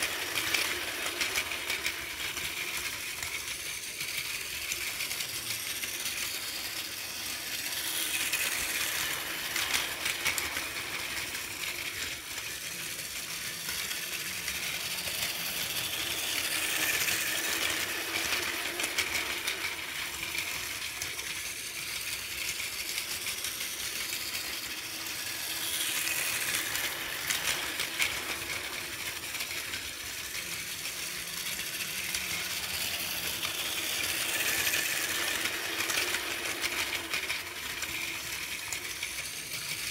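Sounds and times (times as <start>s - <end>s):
toy train motor whirring: 0.0s - 39.9s
toy train wheels clicking: 0.0s - 39.9s.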